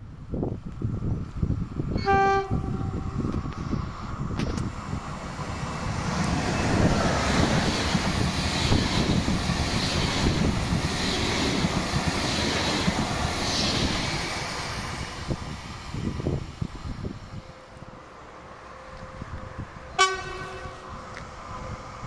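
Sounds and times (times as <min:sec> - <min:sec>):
train wheels rushing on rail: 0:00.0 - 0:22.0.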